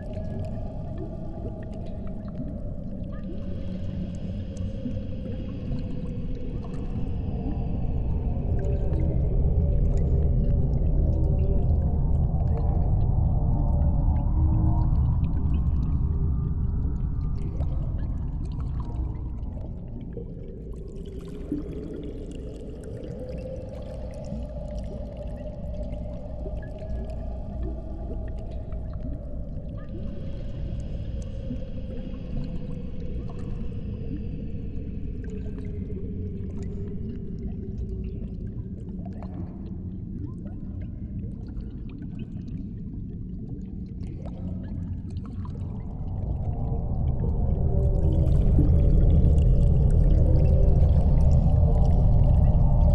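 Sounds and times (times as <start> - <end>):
dark low ambient drone: 0.0 - 52.9.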